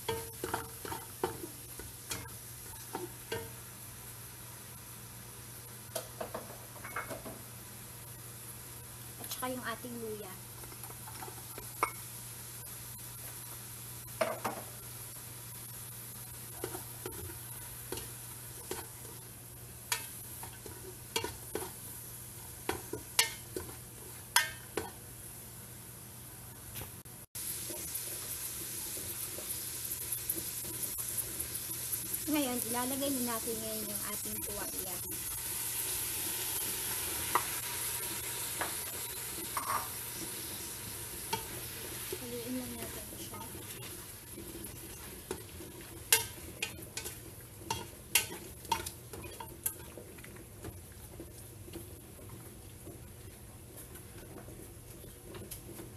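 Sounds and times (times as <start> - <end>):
faint oil sizzle: 0.0 - 55.9.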